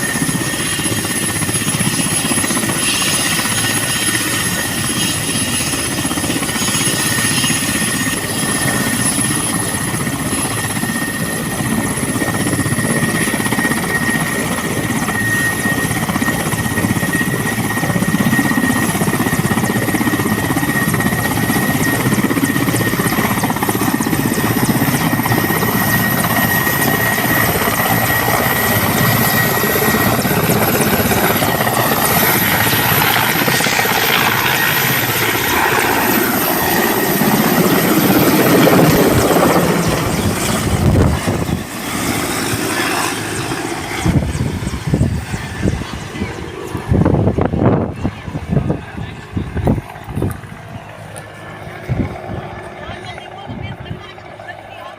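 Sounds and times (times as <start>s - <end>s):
high turbine whine: 0.0s - 54.3s
helicopter rotor noise: 0.0s - 54.9s.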